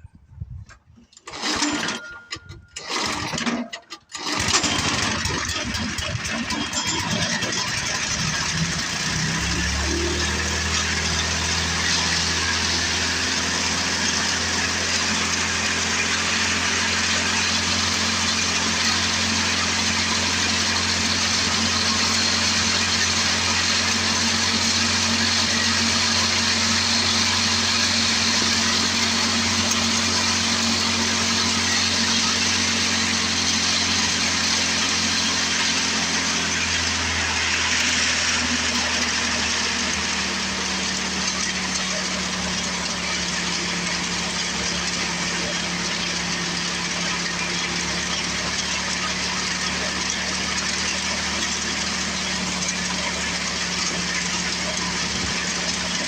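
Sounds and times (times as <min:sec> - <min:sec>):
snowblower engine running: 0:01.0 - 0:56.0.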